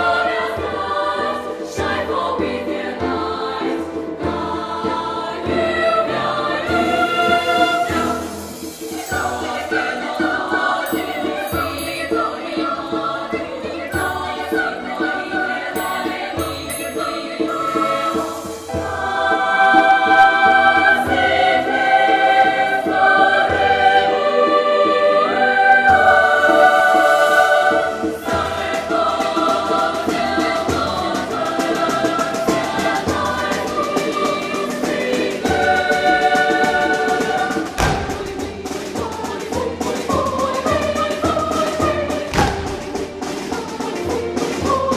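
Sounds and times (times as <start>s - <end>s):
girls' choir singing: 0.0s - 44.9s.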